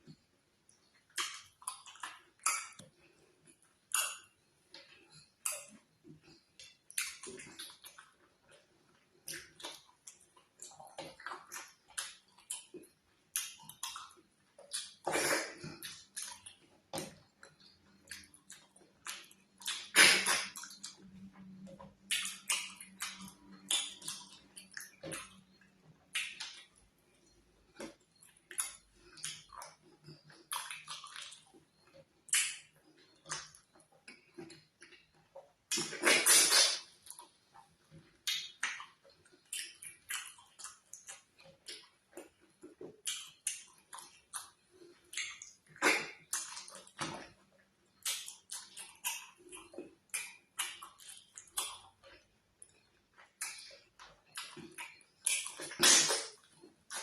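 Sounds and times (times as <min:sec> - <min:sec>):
wet sticky chewing and slurping: 0:09.2 - 0:26.8, 0:27.6 - 0:57.0.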